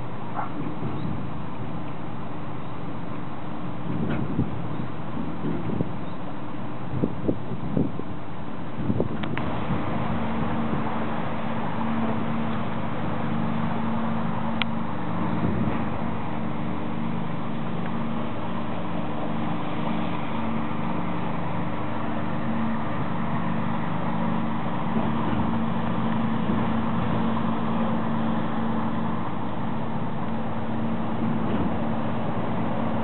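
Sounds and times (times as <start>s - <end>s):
rush of water and air: 0.0s - 33.0s
ship engine drone: 0.0s - 33.0s.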